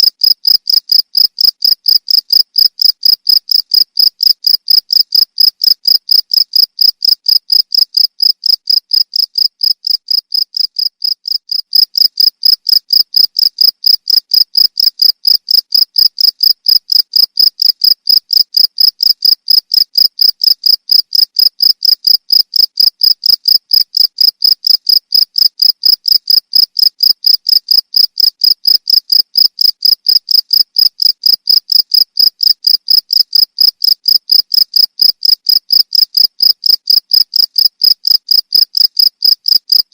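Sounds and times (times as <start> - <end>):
cricket chirping: 0.1 - 39.8.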